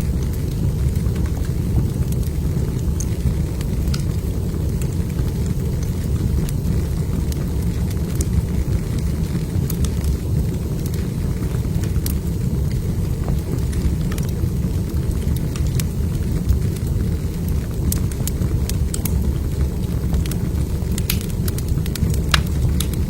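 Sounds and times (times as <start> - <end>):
fire crackles and pops: 0.0 - 23.0
log fire rumbling: 0.0 - 23.0.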